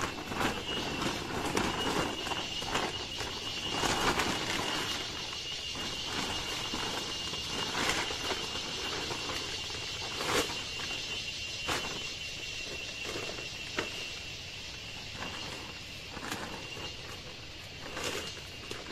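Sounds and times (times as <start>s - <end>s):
plastic tarpaulin rustling: 0.0s - 18.9s.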